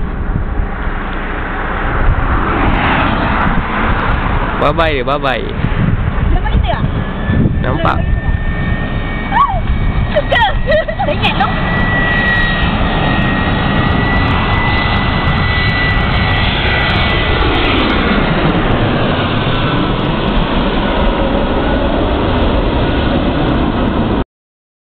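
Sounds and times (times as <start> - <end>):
high engine whine: 0.0 - 24.2
jet plane passing overhead: 0.0 - 24.2.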